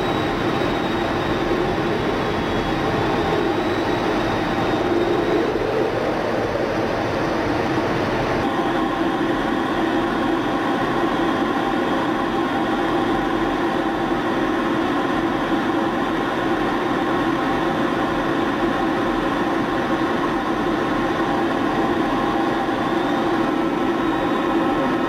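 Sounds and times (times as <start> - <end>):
jet cockpit drone with tones: 0.0 - 6.2, 8.4 - 25.0.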